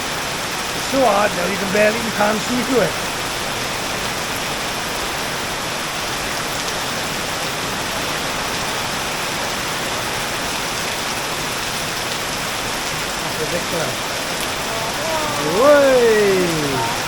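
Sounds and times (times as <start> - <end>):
heavy rain on surfaces: 0.0 - 17.0.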